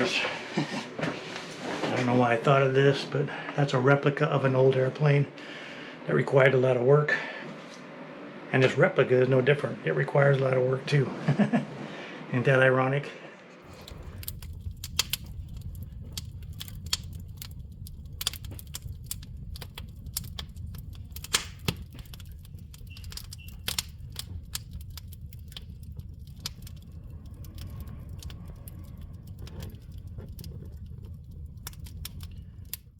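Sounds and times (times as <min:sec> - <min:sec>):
low rumble: 0:00.0 - 0:12.7, 0:13.6 - 0:32.9.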